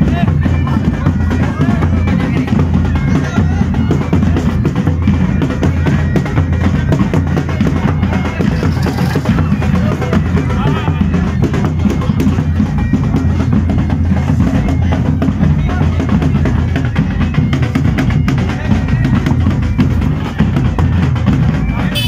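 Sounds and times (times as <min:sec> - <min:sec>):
music with heavy drumming: 0:00.0 - 0:22.0.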